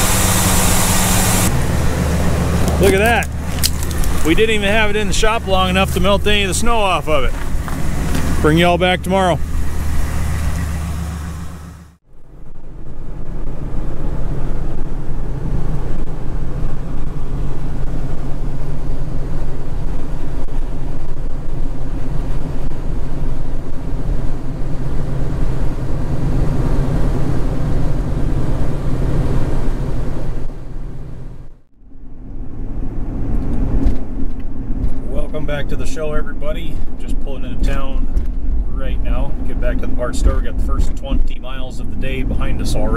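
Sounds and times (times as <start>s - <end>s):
truck engine drone: 0.0s - 42.9s
tyre and road noise: 0.0s - 42.9s.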